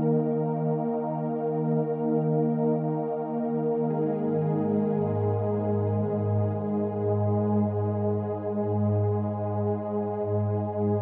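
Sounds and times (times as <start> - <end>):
ambient music of sustained chords: 0.0 - 11.0.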